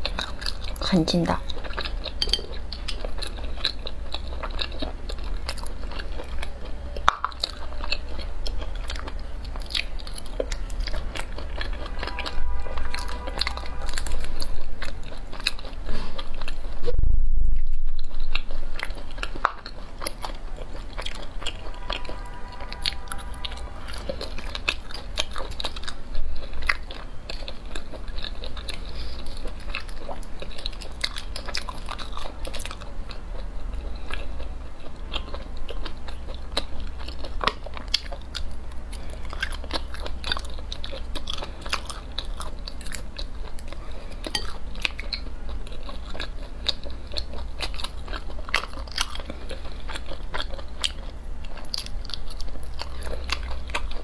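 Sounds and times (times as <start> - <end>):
chewing and biting: 0.0 - 16.9, 17.5 - 54.0.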